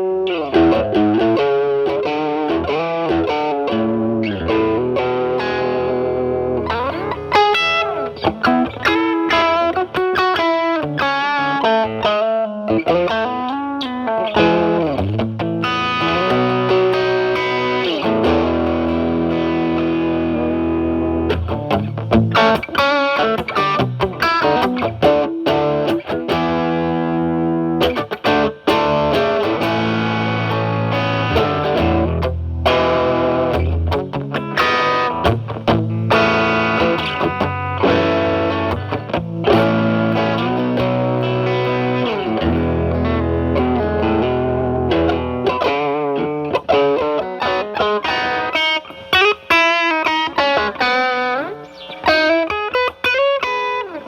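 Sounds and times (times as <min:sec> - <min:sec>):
distorted electric guitar lead: 0:00.0 - 0:54.0.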